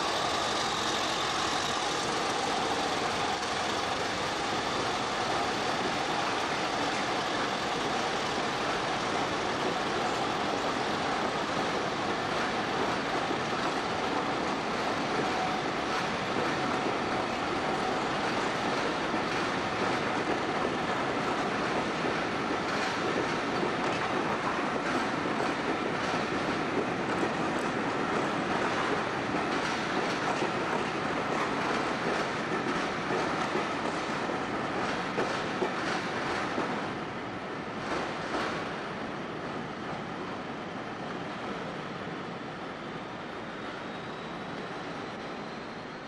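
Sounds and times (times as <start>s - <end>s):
train wheels clicking over rail joints: 0.0s - 36.9s.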